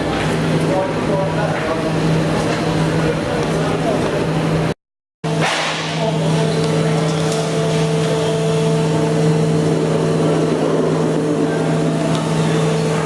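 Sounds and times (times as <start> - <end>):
electric motor and hydraulic pump hum: 0.0 - 13.0.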